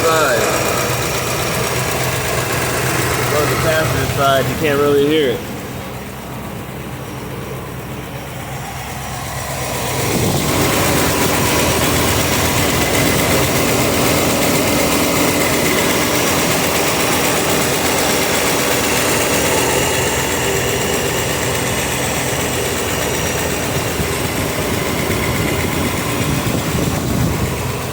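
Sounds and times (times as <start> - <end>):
car engine idling: 0.0 - 27.9
engine ticking: 0.0 - 27.9.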